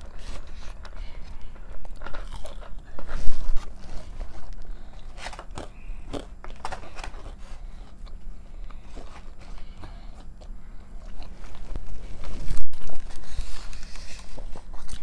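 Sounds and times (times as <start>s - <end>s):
chewing and crunching: 0.0s - 15.0s.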